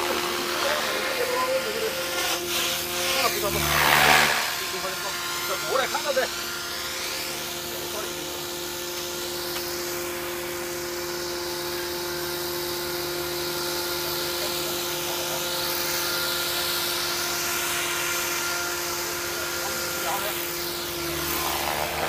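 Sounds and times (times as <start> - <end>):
small drone propellers whining: 0.0 - 22.0.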